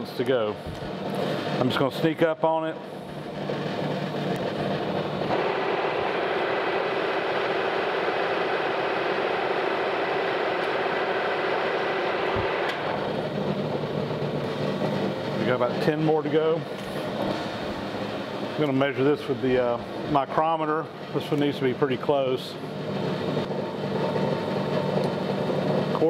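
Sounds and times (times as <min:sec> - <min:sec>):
metal lathe cutting: 0:03.0 - 0:26.0.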